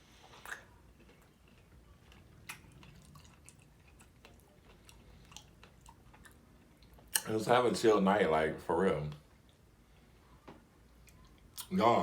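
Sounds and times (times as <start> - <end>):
faint chewing: 0.0 - 7.4, 9.1 - 11.8.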